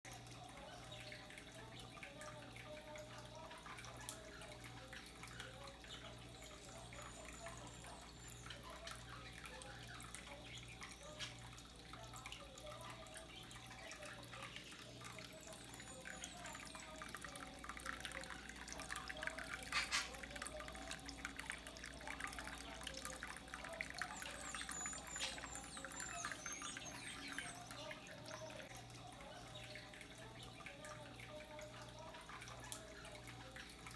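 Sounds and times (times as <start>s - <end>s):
water trickling and dripping: 0.1s - 33.9s.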